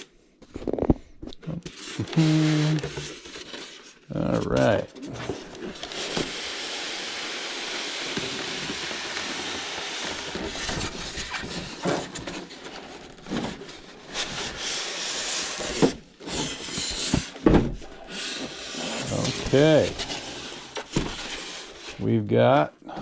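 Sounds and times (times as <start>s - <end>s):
cardboard and foam scraping: 1.4s - 22.1s.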